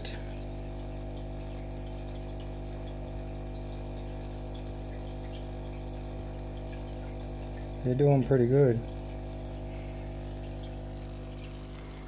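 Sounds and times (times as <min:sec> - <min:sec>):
aquarium pump hum: 0:00.0 - 0:12.0
faint drips: 0:00.0 - 0:12.0
water trickling: 0:00.0 - 0:12.0.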